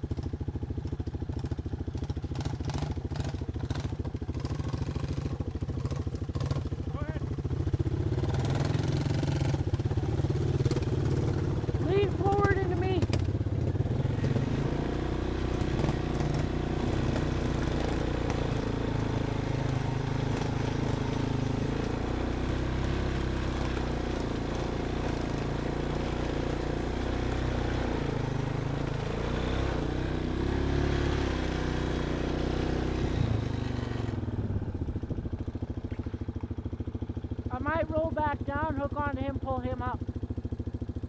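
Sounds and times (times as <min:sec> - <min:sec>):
quad bike engine revving: 0:00.0 - 0:41.0.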